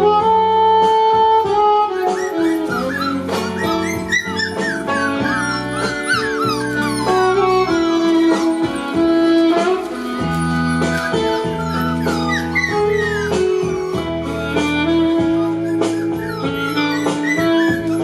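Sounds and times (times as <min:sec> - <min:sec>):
guitar music: 0:00.3 - 0:18.0
puppies whimpering: 0:01.2 - 0:18.0.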